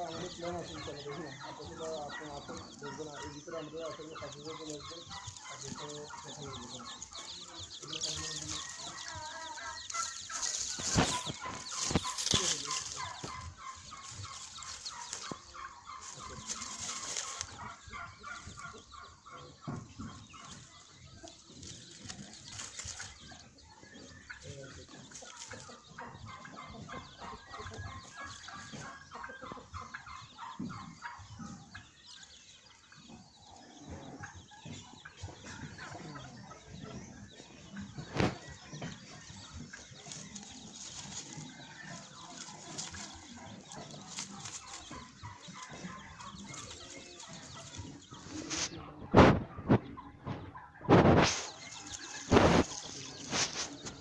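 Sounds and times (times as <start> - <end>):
chicks cheeping: 0.0 - 54.0
hen clucking: 0.0 - 54.0.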